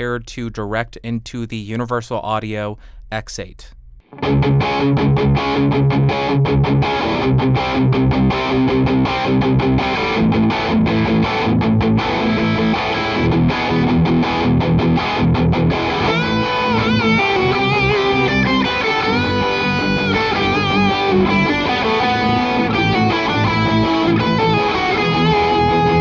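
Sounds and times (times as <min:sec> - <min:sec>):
distorted electric guitar riff: 0:04.0 - 0:26.0.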